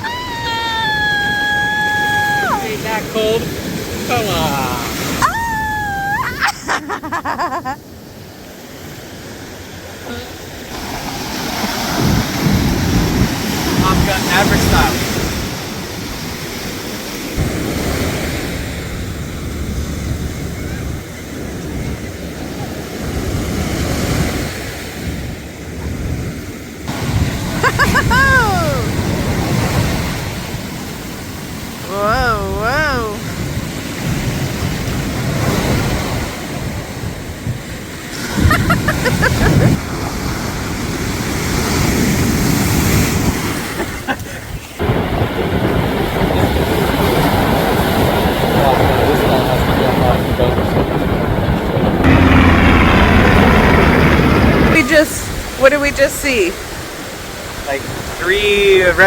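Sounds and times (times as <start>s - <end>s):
ocean surf washing in: 0.0s - 59.0s
wind buffeting microphone: 10.7s - 59.0s.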